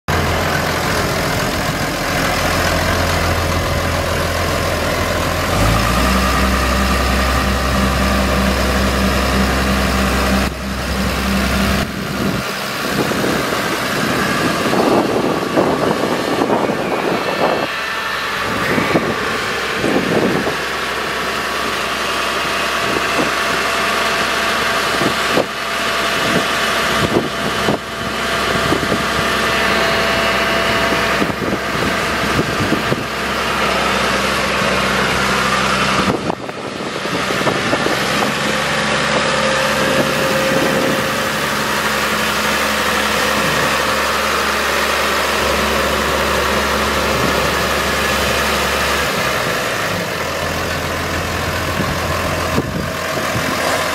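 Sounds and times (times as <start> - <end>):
tractor diesel engine idling: 0.1 - 53.9.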